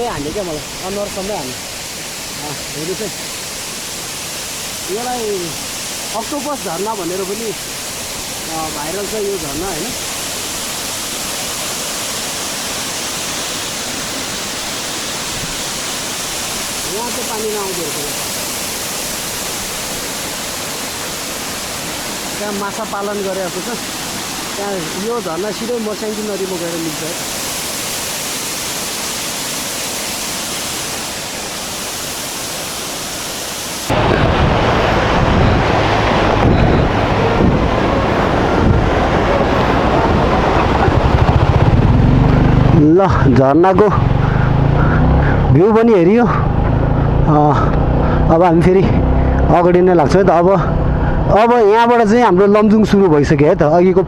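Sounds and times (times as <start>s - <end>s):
waterfall pouring: 0.0s - 54.0s.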